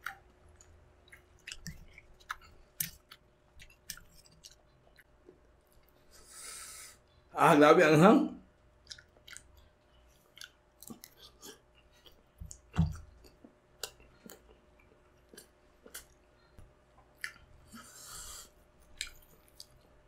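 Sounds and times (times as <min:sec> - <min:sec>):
wet chewing mouth sounds: 0:00.0 - 0:06.1, 0:08.8 - 0:20.0.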